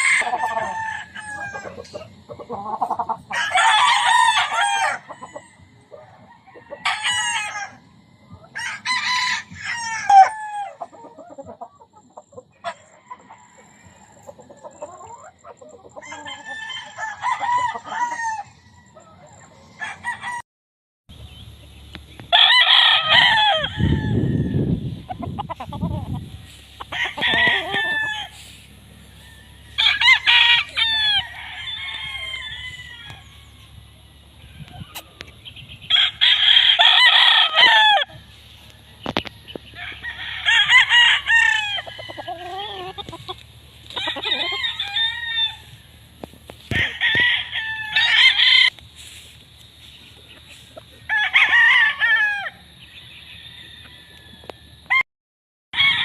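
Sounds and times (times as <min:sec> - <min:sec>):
roosters crowing: 0:00.0 - 0:20.4, 0:21.1 - 0:55.0, 0:55.8 - 0:56.0.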